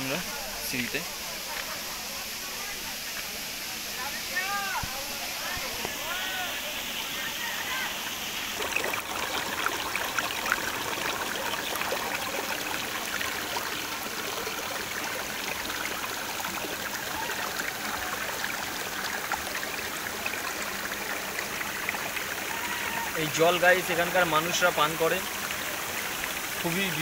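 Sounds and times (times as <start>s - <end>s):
stream trickling over rocks: 0.0s - 27.0s.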